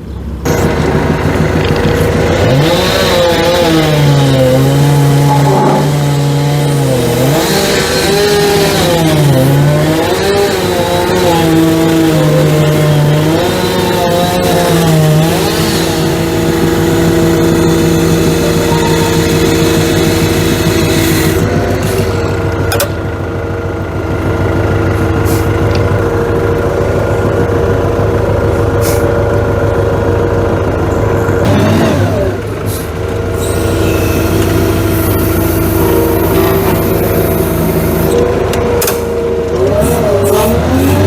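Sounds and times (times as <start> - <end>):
diesel engine running at raised revs: 0.0 - 41.0.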